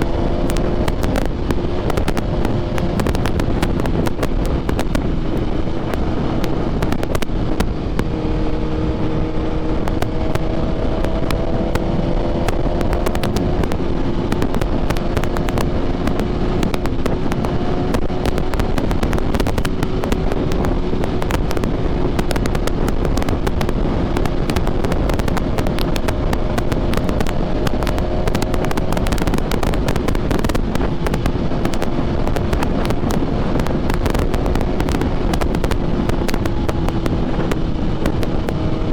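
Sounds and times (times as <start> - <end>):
crackling wind noise: 0.0 - 38.9
motorcycle engine running: 0.0 - 38.9.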